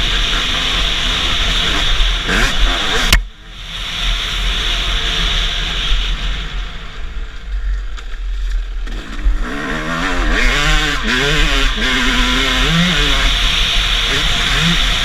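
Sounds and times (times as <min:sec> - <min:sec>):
motocross bike engines revving: 0:00.0 - 0:07.3, 0:08.6 - 0:15.0.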